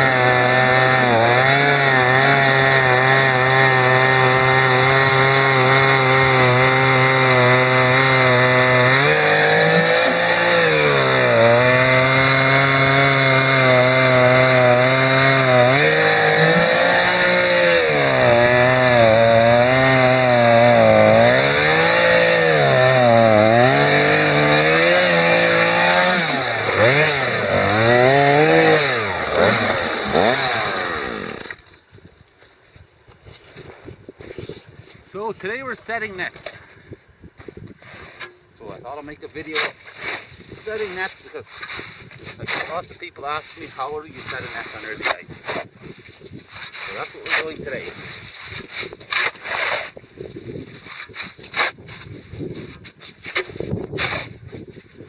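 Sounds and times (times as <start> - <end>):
ice auger engine drilling: 0.0 - 31.7, 38.9 - 45.8, 46.4 - 54.4.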